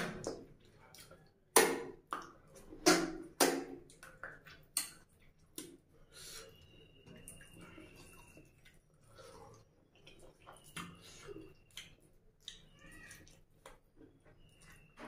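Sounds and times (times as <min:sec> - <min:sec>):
wet chewing and lip-smacking: 0:00.2 - 0:15.0.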